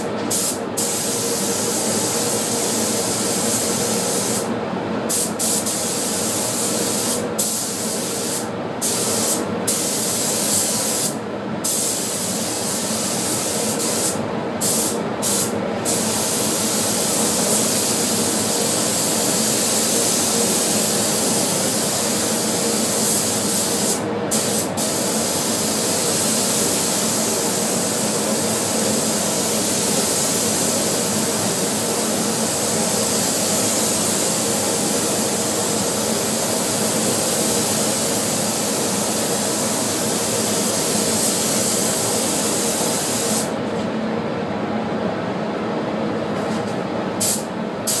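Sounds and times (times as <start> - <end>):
paint spray gun hissing: 0.3 - 4.5, 5.1 - 43.6.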